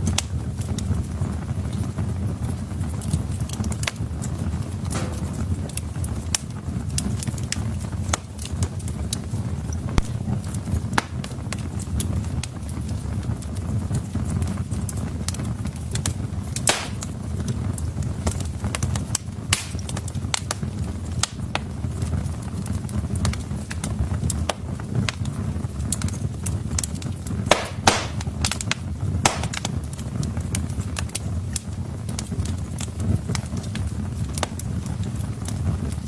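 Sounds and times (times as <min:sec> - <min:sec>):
loud fire pops: 0:00.0 - 0:36.0
low rumble of flames: 0:00.0 - 0:36.0
wood fire crackling: 0:00.0 - 0:36.0.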